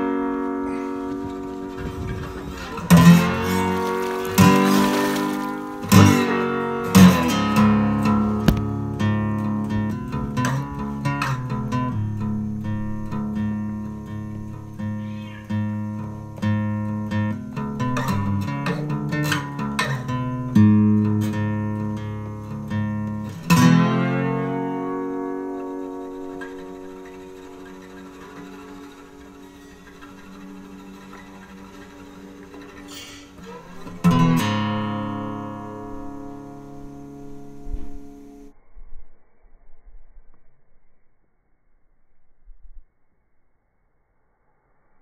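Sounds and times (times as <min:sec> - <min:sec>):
guitar music: 0:00.0 - 0:38.5.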